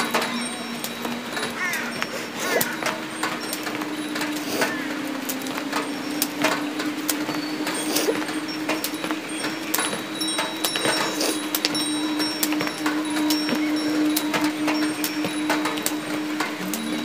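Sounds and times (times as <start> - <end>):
steady low drone: 0.0 - 17.0
thin high tones: 0.0 - 17.0.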